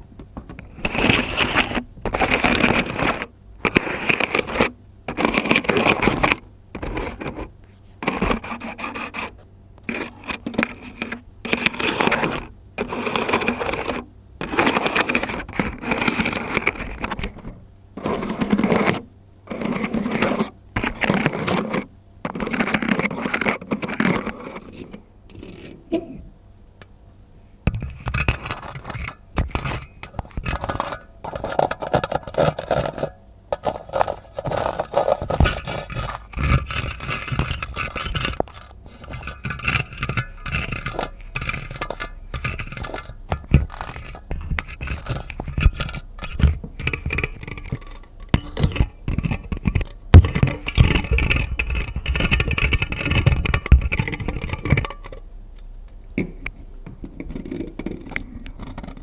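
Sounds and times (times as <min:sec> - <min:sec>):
scratching and scraping objects: 0:00.6 - 0:26.2, 0:27.7 - 0:55.3, 0:56.2 - 0:59.0.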